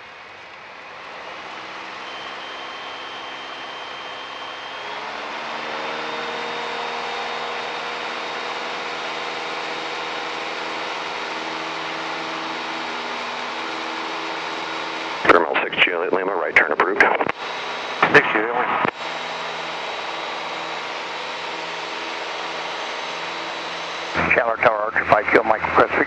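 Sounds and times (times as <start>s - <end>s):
airplane engine and propeller drone: 0.0s - 26.0s.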